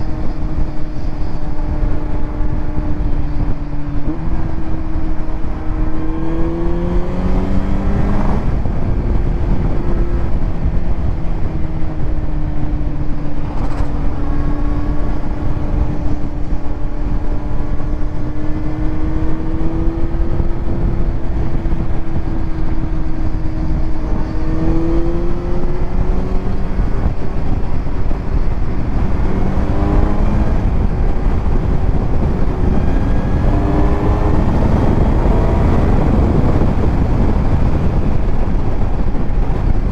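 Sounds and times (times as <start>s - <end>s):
motorcycle engine revving: 0.0s - 39.9s
wind rushing: 0.0s - 39.9s.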